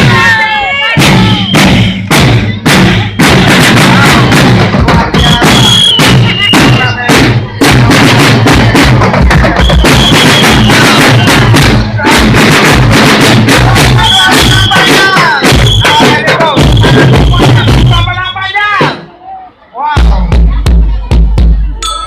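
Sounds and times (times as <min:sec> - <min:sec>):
drum band playing: 0:00.0 - 0:19.1, 0:20.0 - 0:22.0.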